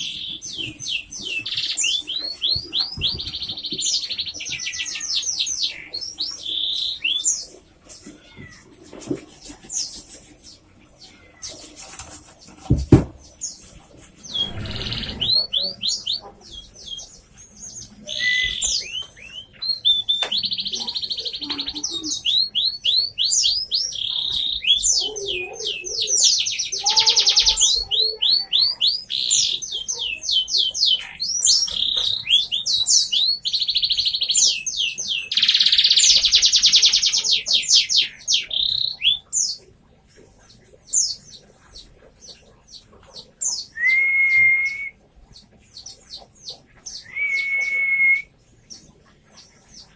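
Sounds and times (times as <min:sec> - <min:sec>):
canary singing: 0:00.0 - 0:08.6, 0:13.2 - 0:49.9.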